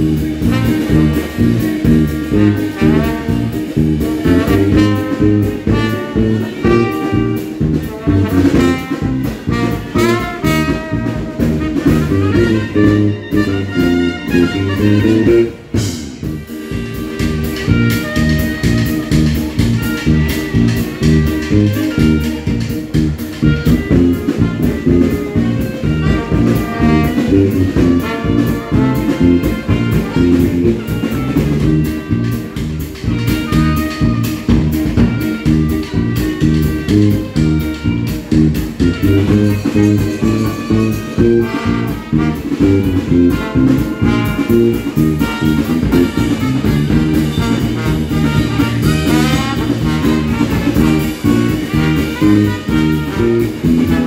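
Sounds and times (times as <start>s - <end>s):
jazz band playing: 0.0s - 54.0s.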